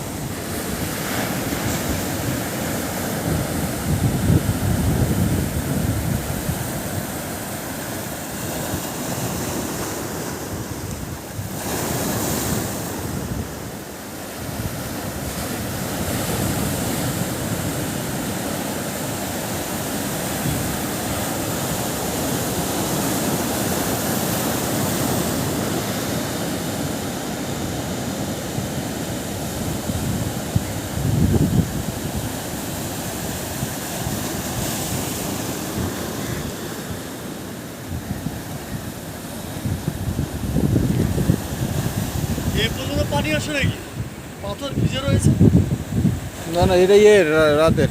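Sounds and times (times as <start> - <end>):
sea surf washing onto beach: 0.0 - 47.9
wind rumbling on microphone: 0.0 - 47.9.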